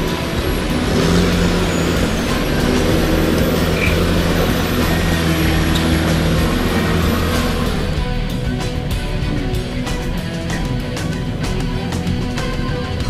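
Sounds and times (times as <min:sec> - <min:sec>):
car engine running under load: 0:00.0 - 0:13.0.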